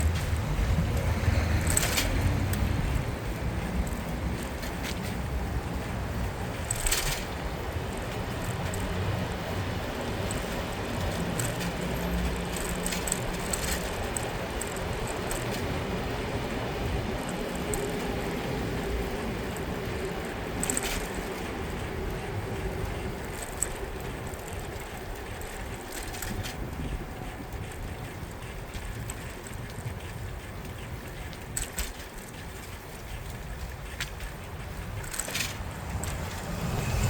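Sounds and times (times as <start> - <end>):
low vehicle rumble: 0.0 - 31.5, 32.4 - 37.0
wind and road noise: 0.0 - 37.0.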